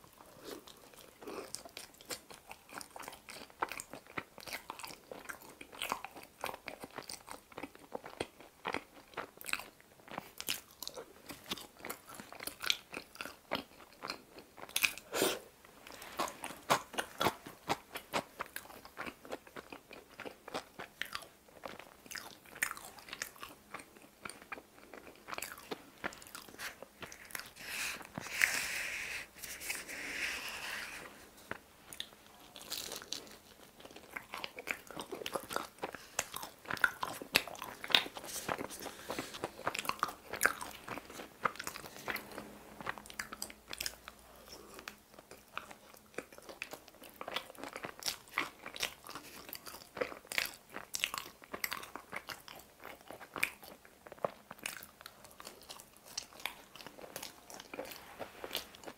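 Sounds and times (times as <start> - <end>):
chewing pizza: 0.0 - 58.9.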